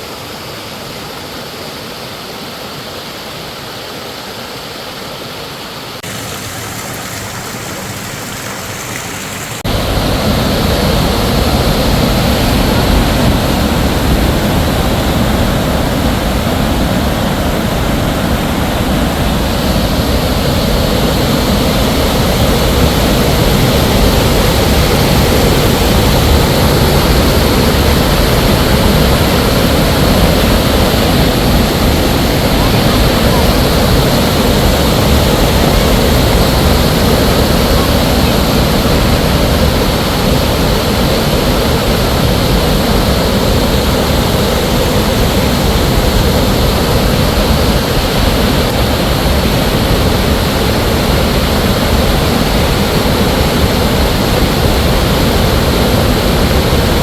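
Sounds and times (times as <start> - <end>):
heavy rain: 0.0 - 57.0
rushing water: 0.0 - 57.0.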